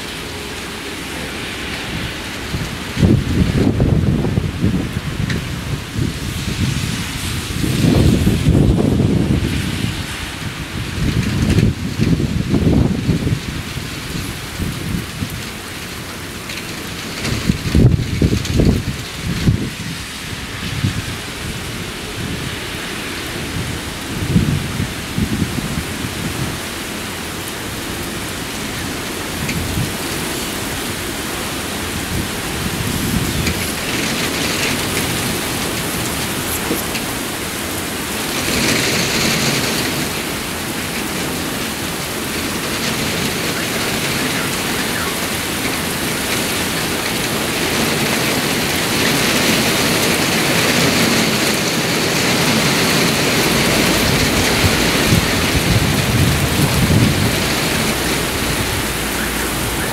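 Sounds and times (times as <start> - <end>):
gusty wind: 0.0 - 59.9
heavy rain pouring: 0.0 - 59.9
low thunder rumbling: 0.0 - 59.9.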